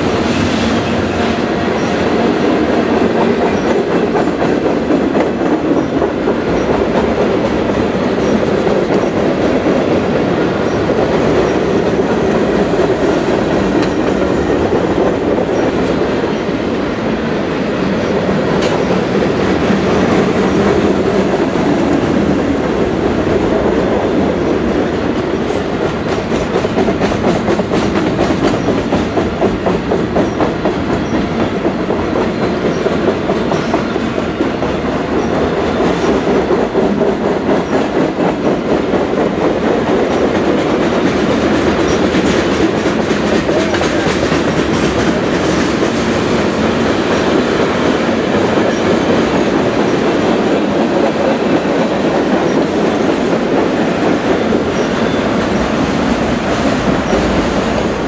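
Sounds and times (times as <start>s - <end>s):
train cars rumbling: 0.0s - 58.0s.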